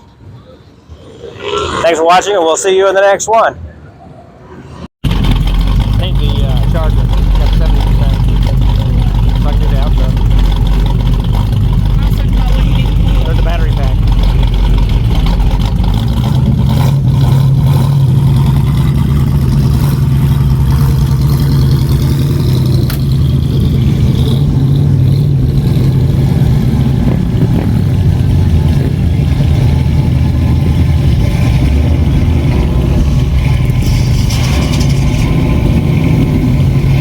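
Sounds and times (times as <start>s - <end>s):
pickup engine running steadily: 5.0s - 37.0s.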